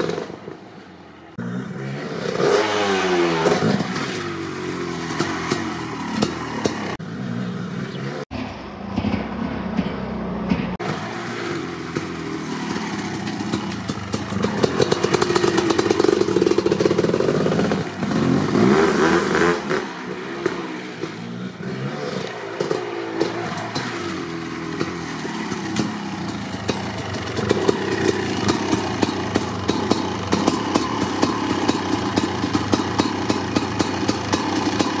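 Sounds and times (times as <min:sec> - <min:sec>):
dirt bike engine revving: 0:01.3 - 0:08.3, 0:10.8 - 0:35.0.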